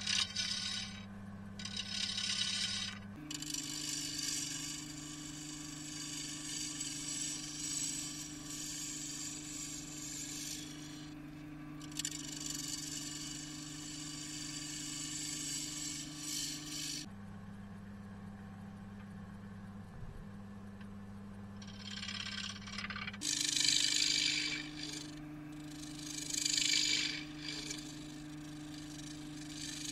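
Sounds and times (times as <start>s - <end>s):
turning tool cutting wood: 0.0s - 17.1s, 21.6s - 29.9s
wood lathe motor hum: 0.0s - 17.1s, 21.6s - 29.9s.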